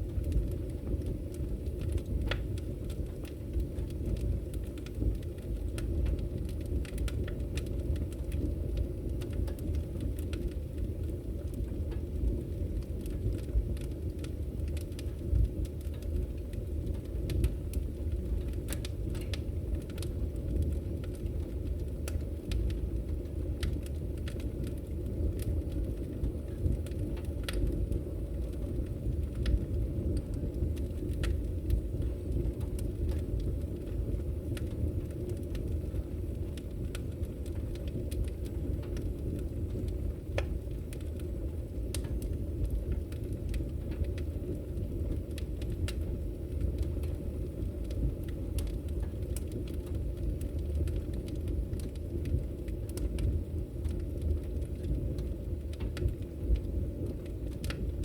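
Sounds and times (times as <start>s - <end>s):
logs crackling and popping: 0.0s - 58.0s.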